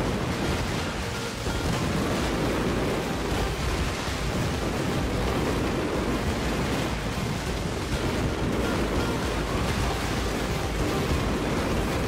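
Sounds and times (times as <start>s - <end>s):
fireworks bangs and crackle: 0.0s - 12.0s.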